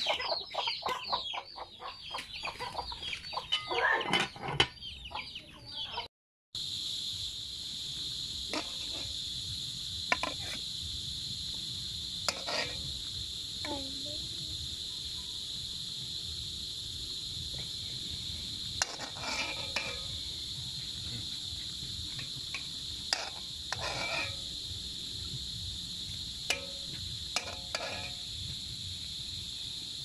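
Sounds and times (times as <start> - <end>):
insect chorus drone: 0.0 - 6.0, 6.6 - 30.0.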